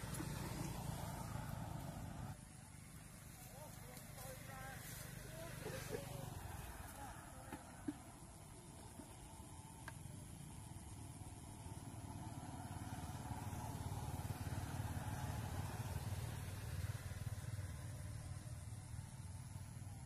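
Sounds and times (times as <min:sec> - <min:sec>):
small motorbike engine running: 0:00.0 - 0:20.0.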